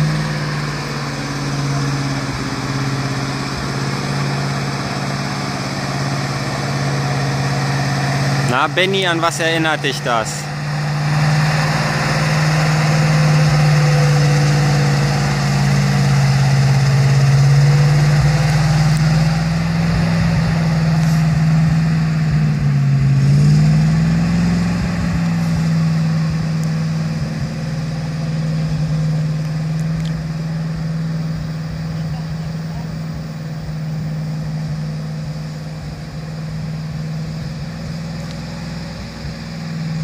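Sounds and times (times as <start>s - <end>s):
truck engine driving through mud: 0.0s - 40.0s.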